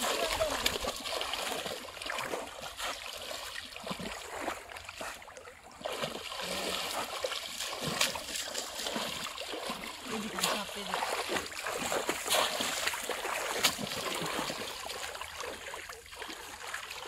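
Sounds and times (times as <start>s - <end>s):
people wading through muddy water: 0.0s - 17.0s.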